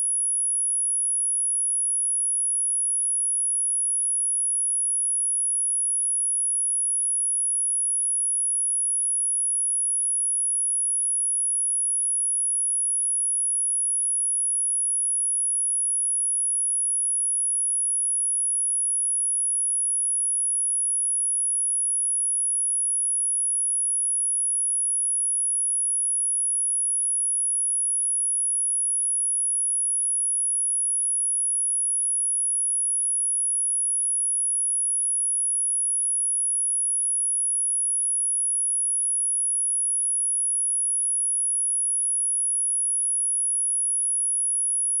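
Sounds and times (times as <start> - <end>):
high-pitched sine test tone: 0.0 - 45.0.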